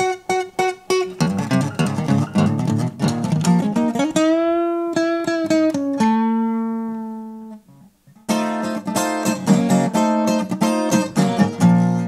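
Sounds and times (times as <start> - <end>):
acoustic guitar chord ringing: 0.0 - 12.0
acoustic guitar strumming: 0.0 - 12.0.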